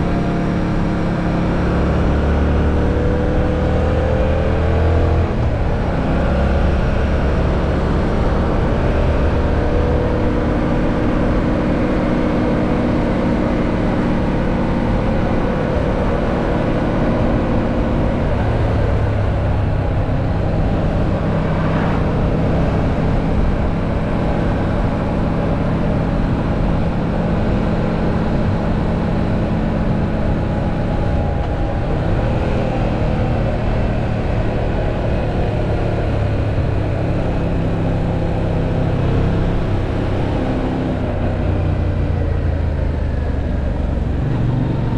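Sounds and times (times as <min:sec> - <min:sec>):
road noise: 0:00.0 - 0:44.9
wind noise: 0:02.9 - 0:44.9.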